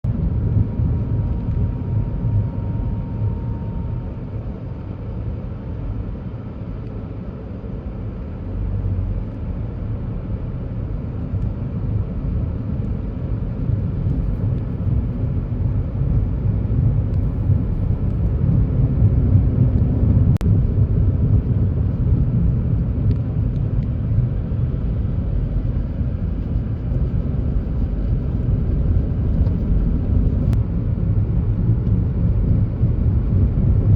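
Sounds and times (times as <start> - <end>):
rumble of road traffic: 0.0 - 33.9.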